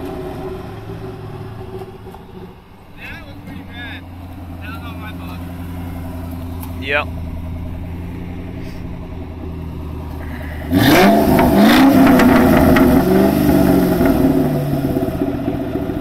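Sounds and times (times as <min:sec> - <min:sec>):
car engine revving with crackles: 0:00.0 - 0:16.0.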